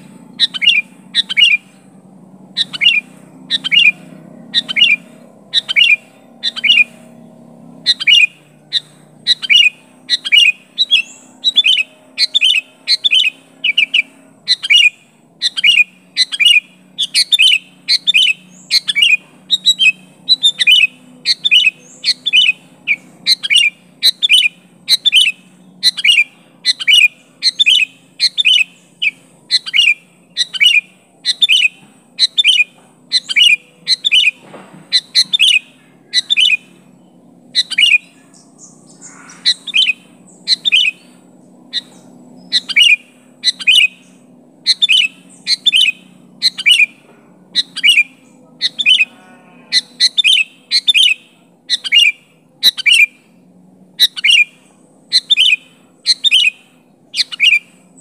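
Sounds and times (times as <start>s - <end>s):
bulbul calling: 0.0s - 58.0s
faint low hum: 0.0s - 58.0s.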